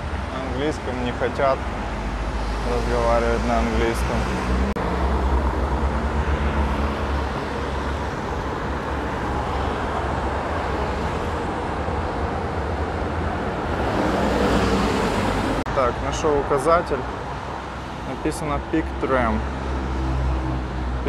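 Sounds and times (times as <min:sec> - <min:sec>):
passing traffic: 0:00.0 - 0:21.0
vehicle engine humming: 0:00.0 - 0:21.0.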